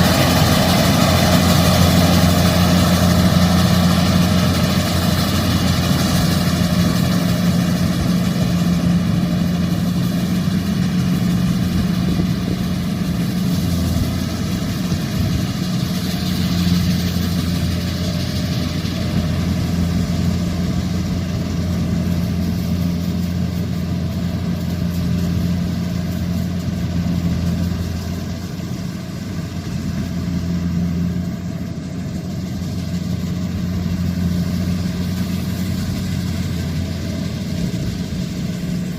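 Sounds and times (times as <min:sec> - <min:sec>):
diesel engine low hum: 0:00.0 - 0:38.9.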